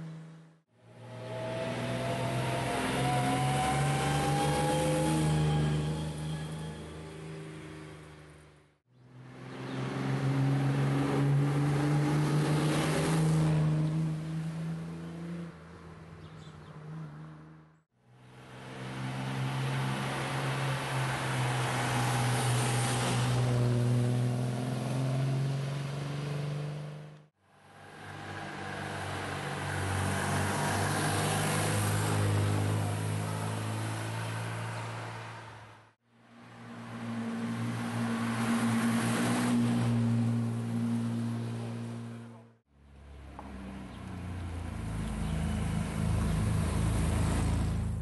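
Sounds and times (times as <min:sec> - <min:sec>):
sports car engines driving by: 0:00.0 - 0:48.0.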